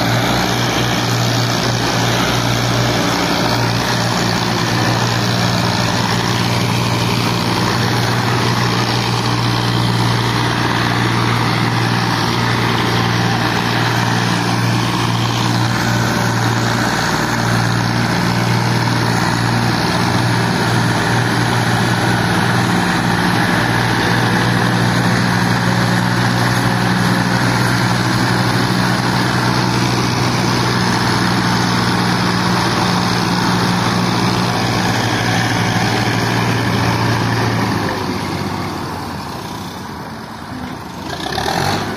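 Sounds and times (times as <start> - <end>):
diesel tractor engines droning: 0.0 - 41.9.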